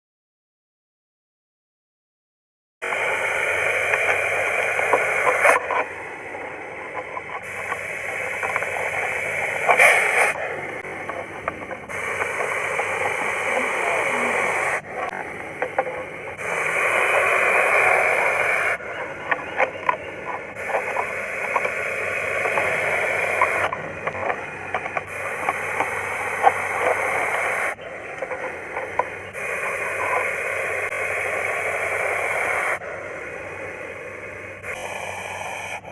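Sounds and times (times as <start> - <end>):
snake hissing: 2.8 - 35.9.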